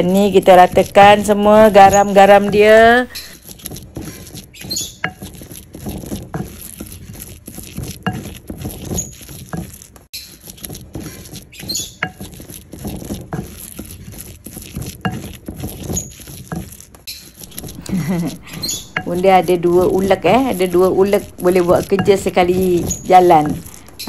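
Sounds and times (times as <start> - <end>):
pestle mashing in mortar: 0.0 - 24.0.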